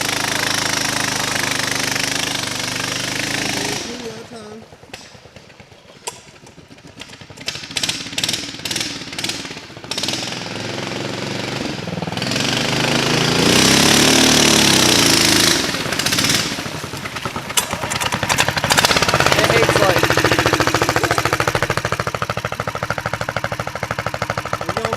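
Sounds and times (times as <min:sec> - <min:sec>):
single-cylinder engine running: 0:00.0 - 0:24.9.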